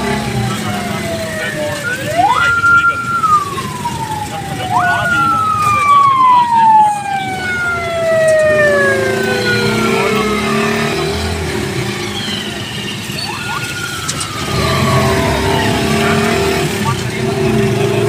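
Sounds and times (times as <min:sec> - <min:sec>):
siren-like wailing tone: 0:00.0 - 0:17.2.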